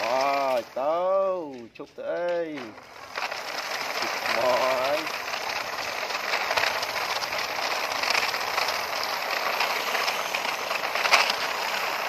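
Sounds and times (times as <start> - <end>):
plastic toy trucks rattling: 0.0 - 12.0.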